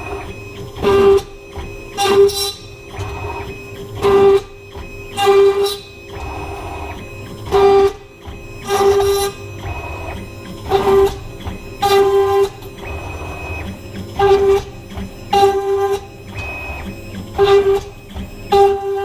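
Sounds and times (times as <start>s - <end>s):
motor whine and cutting noise: 0.0s - 19.0s.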